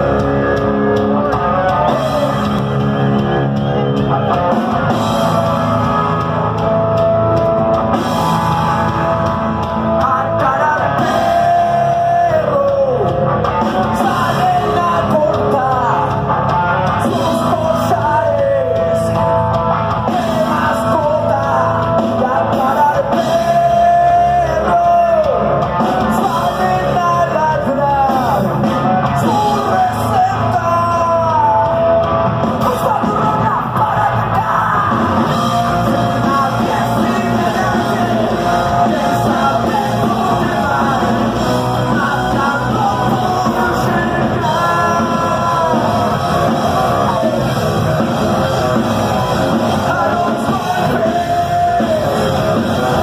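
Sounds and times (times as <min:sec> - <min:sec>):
bass guitar: 0:00.0 - 0:53.0
drum kit: 0:00.0 - 0:53.0
electric guitars: 0:00.0 - 0:53.0
person singing lead vocal: 0:00.0 - 0:53.0.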